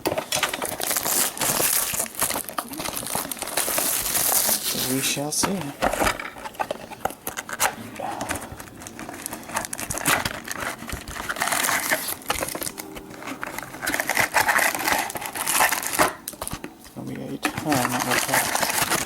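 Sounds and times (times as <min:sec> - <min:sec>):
plastic wrapping crinkling: 0:00.0 - 0:19.0.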